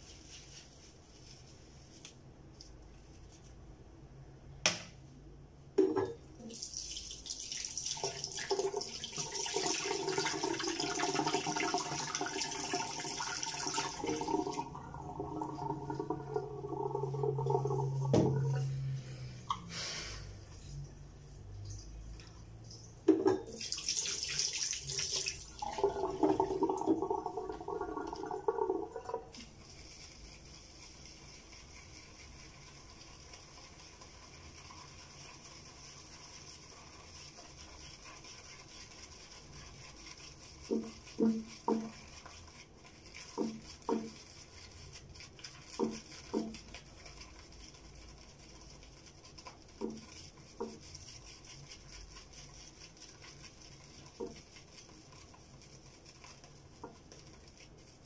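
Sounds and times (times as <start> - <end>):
faint steady hiss: 0.0 - 58.0
water running at a sink: 5.8 - 18.9, 20.8 - 58.0.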